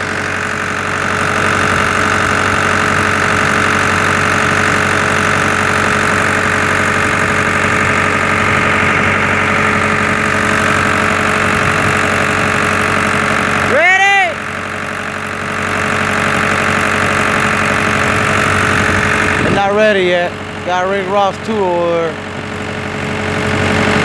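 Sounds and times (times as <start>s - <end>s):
pump engine running: 0.0s - 24.0s.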